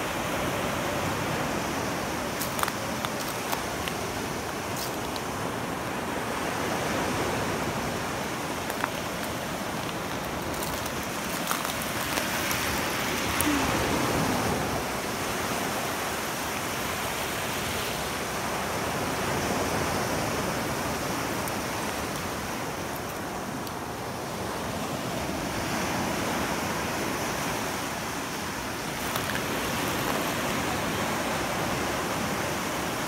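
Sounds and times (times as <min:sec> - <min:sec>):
small waves washing over shells: 0:00.1 - 0:33.0.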